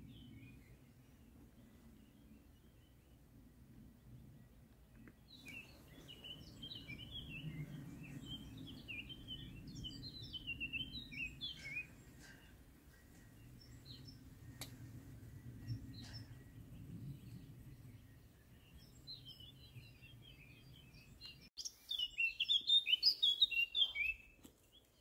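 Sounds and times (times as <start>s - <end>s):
low outdoor rumble: 0.0s - 21.4s
songbird chirping and trilling: 0.0s - 25.0s.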